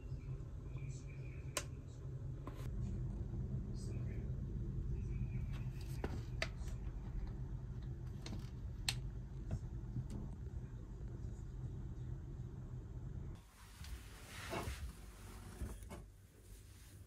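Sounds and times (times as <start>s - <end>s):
room noise hum: 0.0s - 17.0s.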